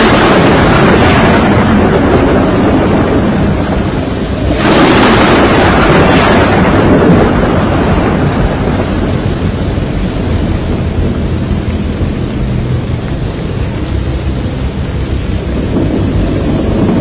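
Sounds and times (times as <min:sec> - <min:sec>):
deep low rumble: 0:00.0 - 0:17.0
rain: 0:00.0 - 0:17.0
wind: 0:00.0 - 0:17.0.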